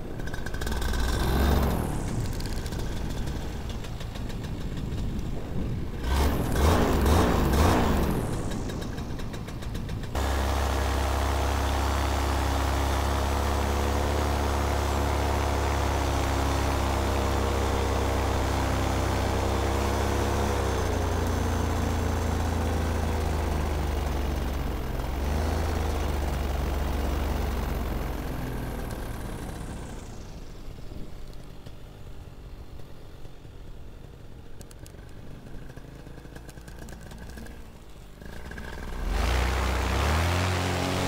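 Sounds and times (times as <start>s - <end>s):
paramotor engine running: 0.0s - 41.0s.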